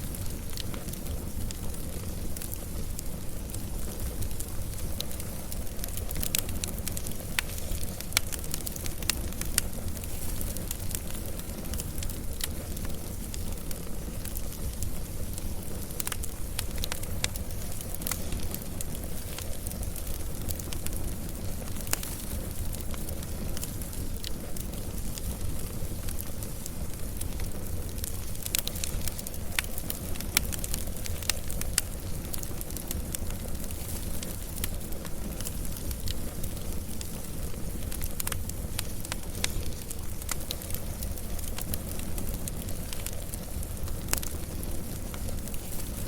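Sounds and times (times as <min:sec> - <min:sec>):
fire low rumble: 0:00.0 - 0:46.0
wood fire crackling and popping: 0:00.0 - 0:46.0.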